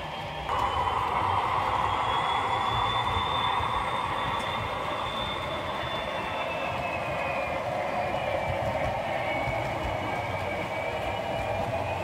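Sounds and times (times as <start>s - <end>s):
model train running on track: 0.0s - 12.0s
thin high whine: 0.5s - 12.0s.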